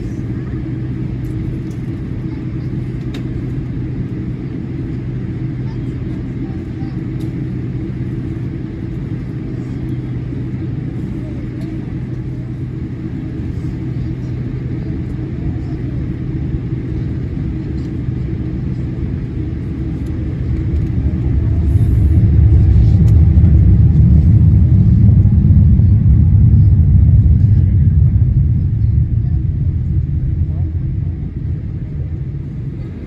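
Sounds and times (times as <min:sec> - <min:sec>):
jet engines droning in cabin: 0:00.0 - 0:33.0.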